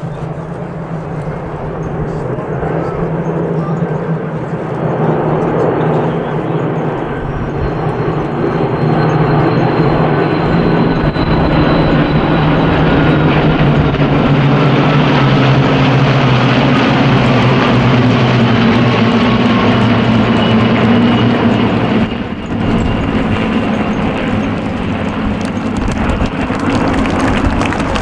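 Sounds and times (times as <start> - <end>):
aircraft piston engines droning: 0.0 - 28.0.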